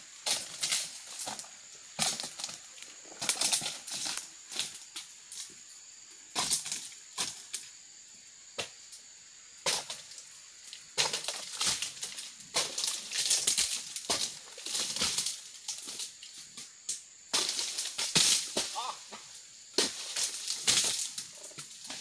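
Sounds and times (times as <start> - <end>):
dry palm fronds crackling: 0.0 - 5.6, 9.6 - 22.0.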